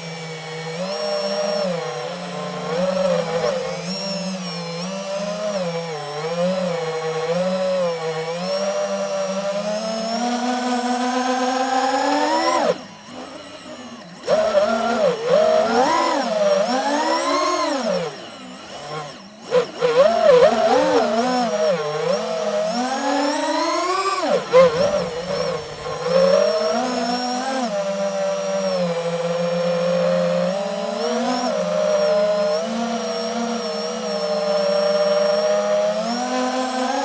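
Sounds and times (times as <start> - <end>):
drone propellers whining: 0.0 - 37.0.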